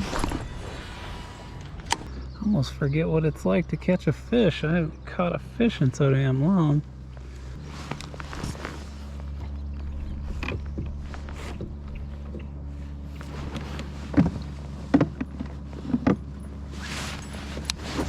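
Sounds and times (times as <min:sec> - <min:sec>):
kayak drive unit humming: 0:00.0 - 0:18.0.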